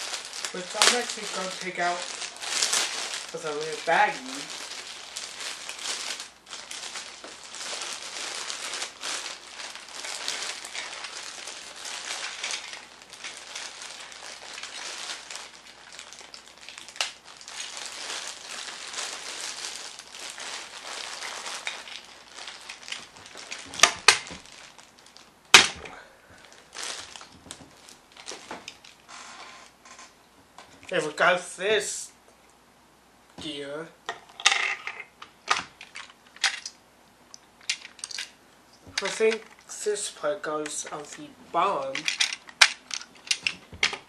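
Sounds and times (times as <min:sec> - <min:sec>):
plastic bag crinkling: 0:00.0 - 0:30.0, 0:34.2 - 0:36.8, 0:37.4 - 0:44.0.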